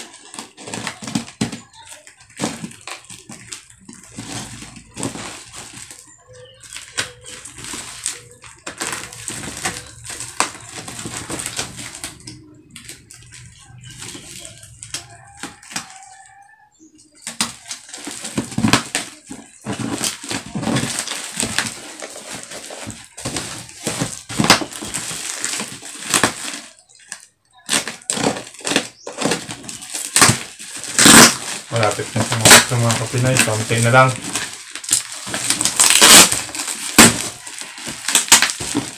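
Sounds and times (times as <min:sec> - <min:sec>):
plastic wrapping crinkling: 0:00.0 - 0:38.9.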